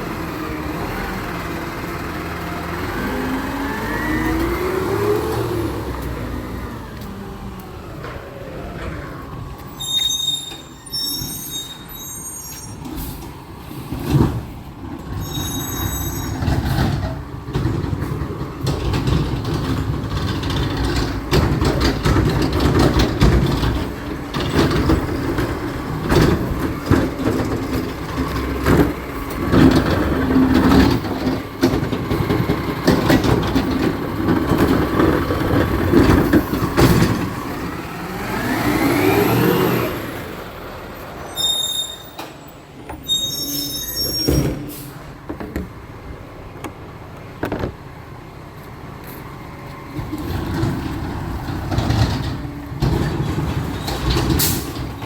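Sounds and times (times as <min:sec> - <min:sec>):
truck engine running: 0:00.0 - 0:09.9, 0:16.1 - 0:41.3, 0:44.6 - 0:55.0.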